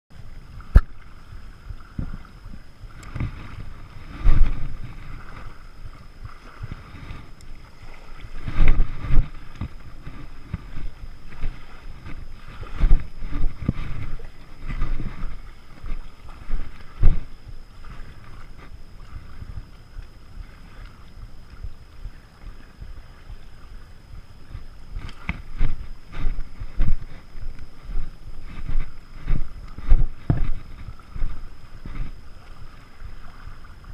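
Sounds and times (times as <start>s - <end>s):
water lapping at shoreline: 0.1s - 33.9s
wind buffeting microphone: 0.1s - 33.9s.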